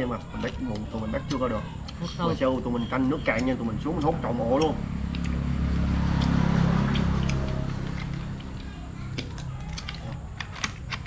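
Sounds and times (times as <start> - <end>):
crab shell cracking: 0.0 - 11.0.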